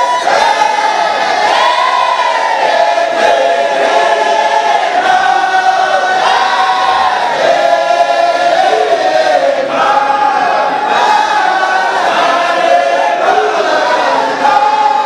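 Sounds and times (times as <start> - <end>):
men chanting in unison: 2.8 - 15.0.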